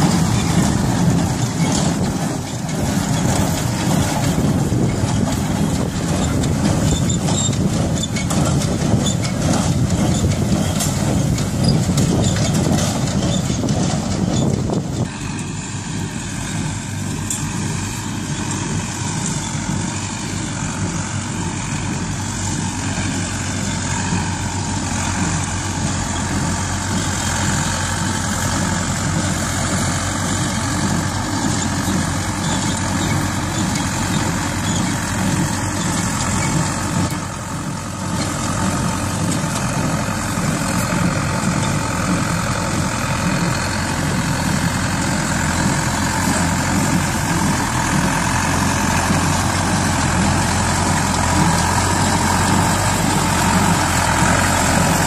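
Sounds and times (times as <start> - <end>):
hay baler machinery running: 0.0 - 55.0
tractor diesel engine running: 0.0 - 55.0.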